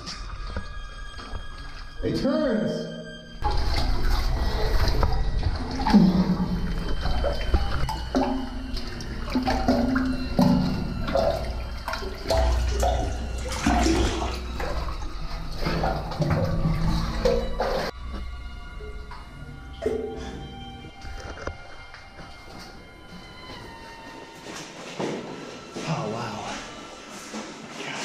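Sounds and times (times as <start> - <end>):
water sloshing and splashing: 3.4 - 28.0.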